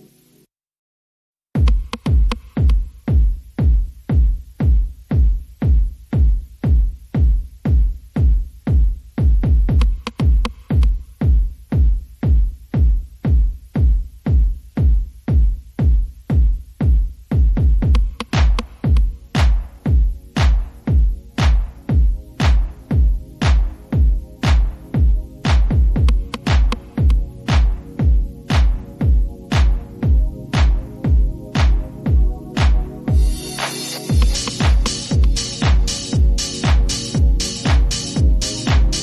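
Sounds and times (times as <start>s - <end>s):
heavy kick drum beat: 1.5s - 39.0s
electronic music: 1.6s - 39.0s.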